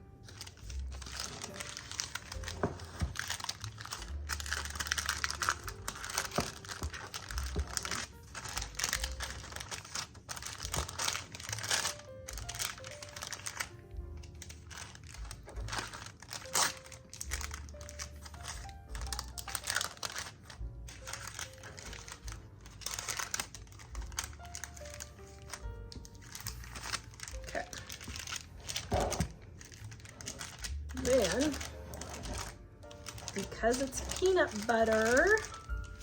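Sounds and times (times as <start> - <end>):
background music: 0.0 - 36.0
crinkling and rustling: 0.1 - 36.0.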